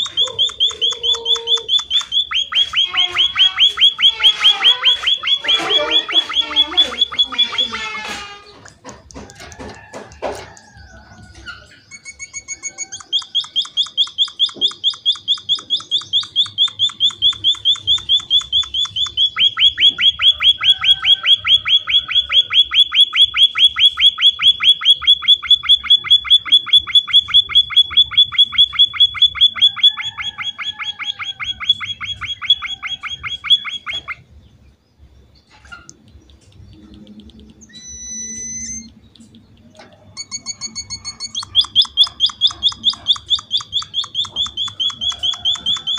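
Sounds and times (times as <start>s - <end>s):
bird sharp chirps: 0.0s - 8.7s, 10.4s - 45.9s.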